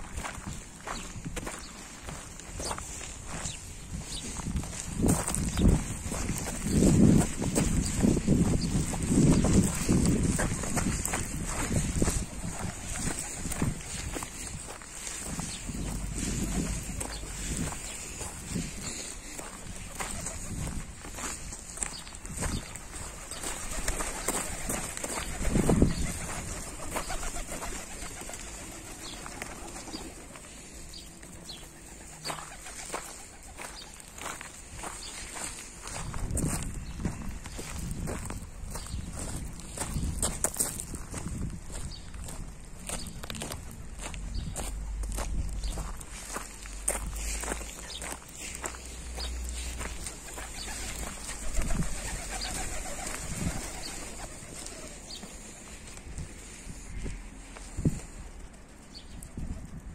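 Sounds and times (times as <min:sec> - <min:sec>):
footsteps on gravel: 0:00.0 - 0:58.5.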